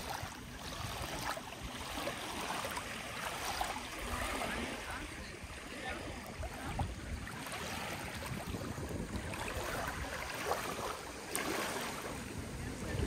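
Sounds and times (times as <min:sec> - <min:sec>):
wind rumble on microphone: 0:00.0 - 0:02.7, 0:03.3 - 0:13.0
small waves washing on shore: 0:00.0 - 0:13.0.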